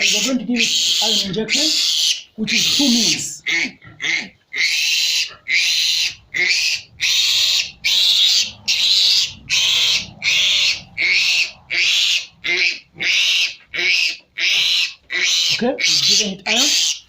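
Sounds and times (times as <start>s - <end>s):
piglet squealing: 0.0s - 17.0s.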